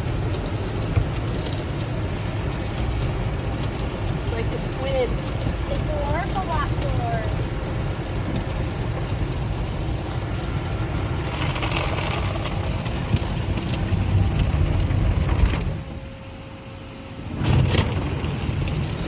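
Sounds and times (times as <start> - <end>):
car wash machinery rumble: 0.0 - 19.0.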